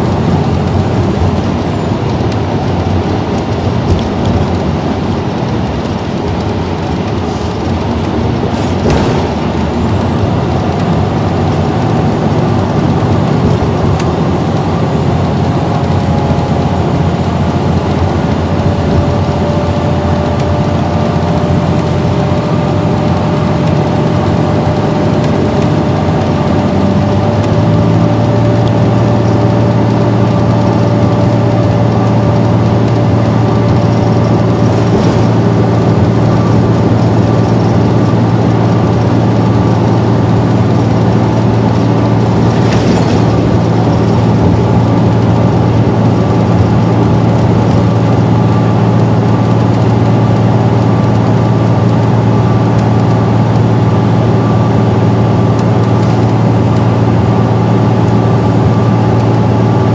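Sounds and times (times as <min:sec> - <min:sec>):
bus engine and drivetrain drone: 0:00.0 - 0:59.9
deep hum: 0:00.0 - 0:59.9
road and tyre noise: 0:00.0 - 0:59.9.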